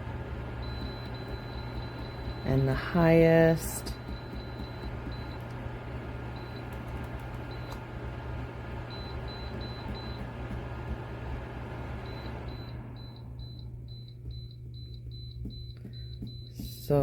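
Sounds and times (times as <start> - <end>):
space heater fan rushing: 0.0 - 17.0.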